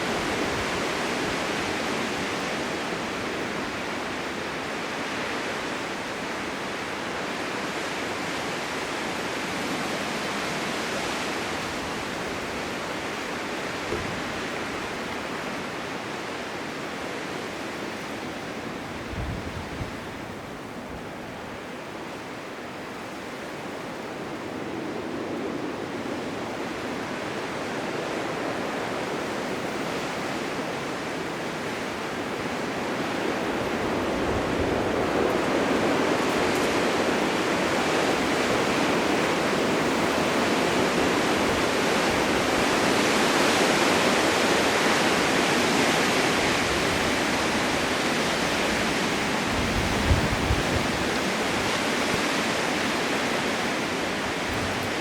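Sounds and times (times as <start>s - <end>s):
blizzard wind rushing: 0.0s - 55.0s.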